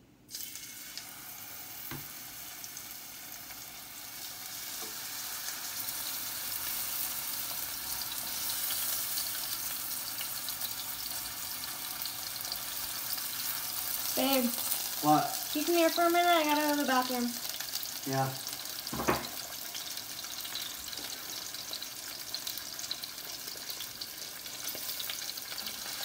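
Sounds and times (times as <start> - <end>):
pork chops sizzling in a pan: 0.3 - 26.0.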